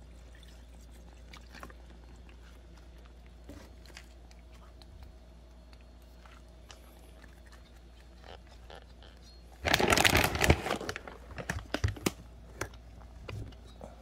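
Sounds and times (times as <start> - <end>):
kitten crunching food: 0.1 - 13.6.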